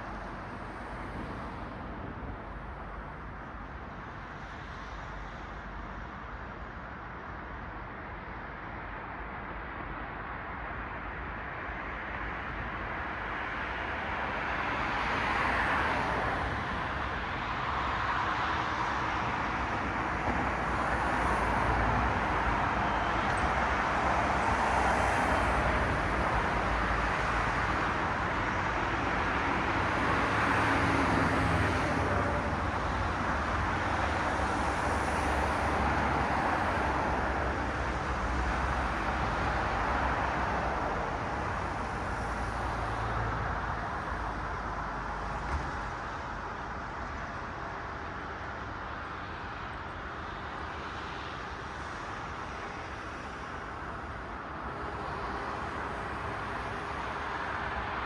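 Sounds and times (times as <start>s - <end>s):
cars passing on street: 0.0s - 58.0s.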